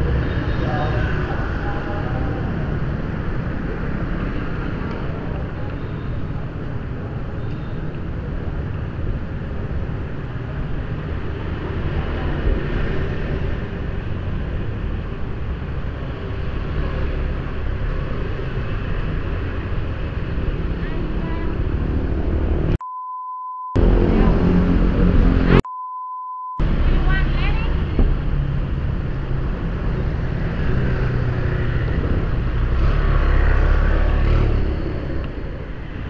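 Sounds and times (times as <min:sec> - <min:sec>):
city traffic rumble: 0:00.0 - 0:22.8, 0:23.8 - 0:25.7, 0:26.6 - 0:36.0.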